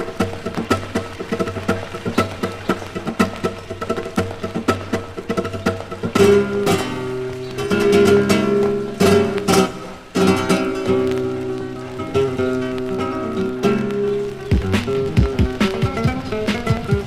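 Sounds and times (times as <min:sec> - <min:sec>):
flamenco guitar music: 0:00.0 - 0:17.0.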